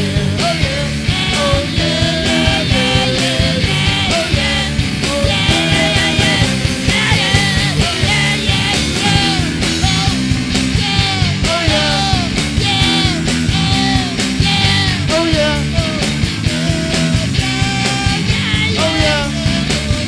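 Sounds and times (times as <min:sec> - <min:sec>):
bending lead guitar line: 0:00.0 - 0:20.0
rock band playing: 0:00.0 - 0:20.0
steady drum beat: 0:00.0 - 0:20.0.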